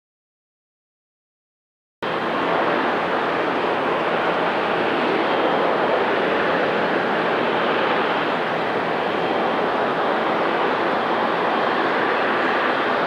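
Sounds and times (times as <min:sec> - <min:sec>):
faint high whine: 0:02.0 - 0:13.0
jet engines running: 0:02.0 - 0:13.0.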